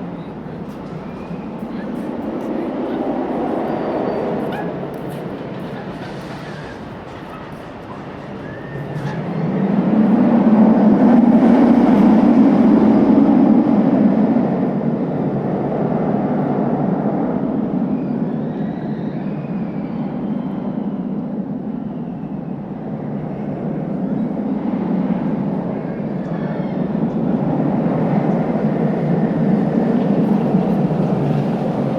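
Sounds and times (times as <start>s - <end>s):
roller coaster train roaring: 0.0s - 31.9s.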